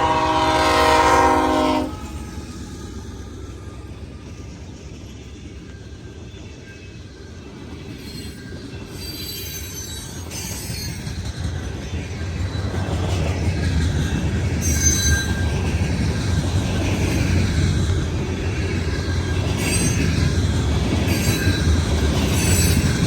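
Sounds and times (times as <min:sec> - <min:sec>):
steel wheels squealing on rails: 0:00.0 - 0:23.0
train rumble: 0:00.0 - 0:23.0.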